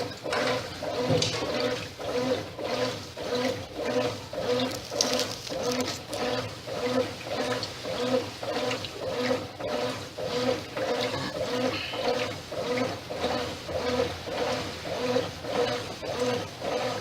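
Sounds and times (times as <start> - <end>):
washing machine agitating: 0.0 - 17.0
water sloshing: 0.4 - 16.1.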